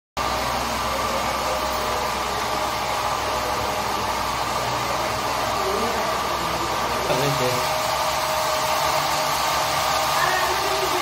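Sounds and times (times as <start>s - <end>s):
machinery whirring and humming: 0.2s - 11.0s.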